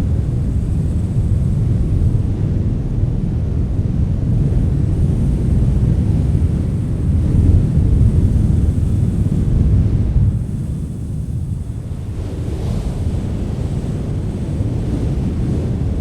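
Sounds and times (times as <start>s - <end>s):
strong wind rumbling: 0.0s - 16.0s
wind buffeting microphone: 0.0s - 16.0s.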